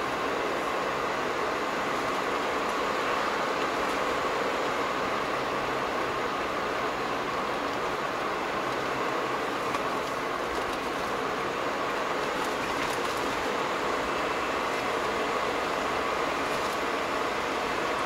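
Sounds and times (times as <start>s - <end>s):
tyres on wet asphalt: 0.0s - 18.0s.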